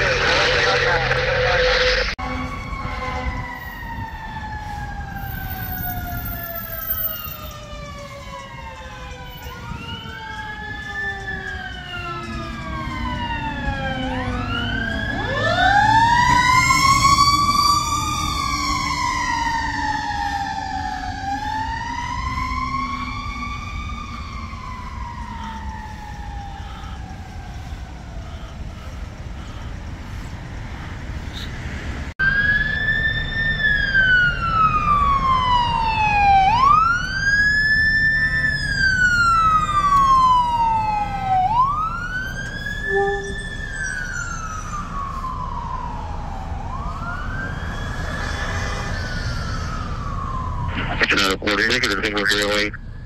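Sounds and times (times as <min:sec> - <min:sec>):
fire truck sirens wailing: 0:00.0 - 0:30.9, 0:32.2 - 0:53.0.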